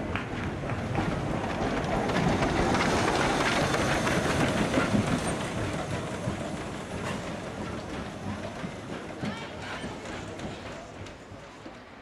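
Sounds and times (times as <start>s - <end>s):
steam locomotive rolling past: 0.0s - 12.0s
wheels clanking over rails: 0.3s - 11.8s.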